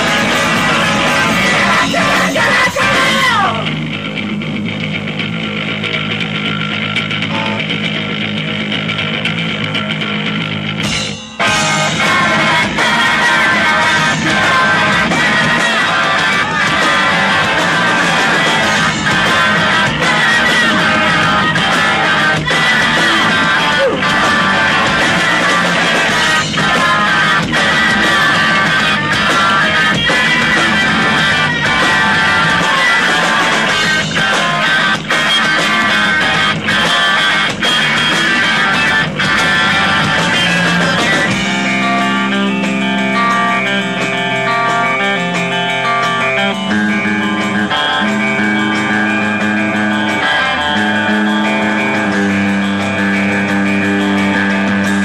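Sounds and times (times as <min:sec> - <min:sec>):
ringing electric guitar chords: 0:00.0 - 0:55.0
rock band playing live: 0:00.0 - 0:55.0
steady drum beat: 0:00.0 - 0:55.0.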